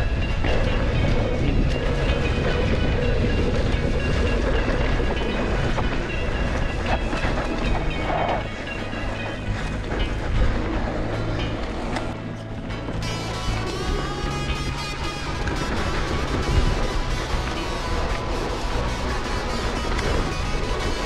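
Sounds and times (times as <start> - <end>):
bike rattling: 0.0 - 21.0
tyres rumbling on dirt: 0.0 - 21.0.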